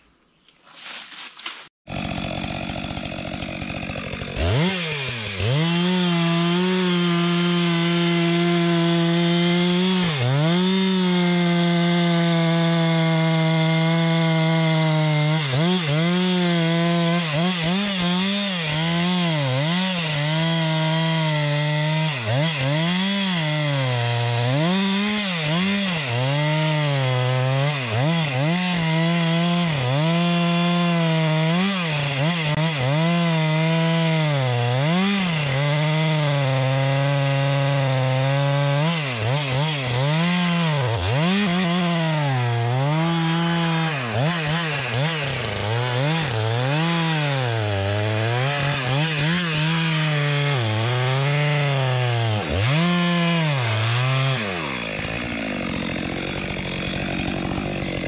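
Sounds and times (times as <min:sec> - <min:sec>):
chainsaw cutting timber: 0:00.7 - 0:58.0.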